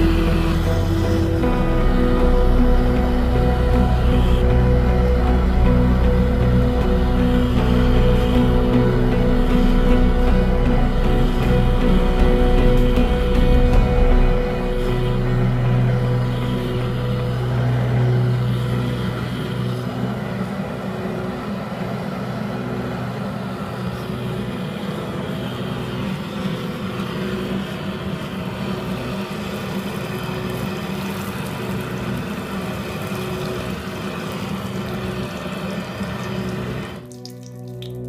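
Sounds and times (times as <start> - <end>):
motor humming with rushing noise: 0.0 - 37.2.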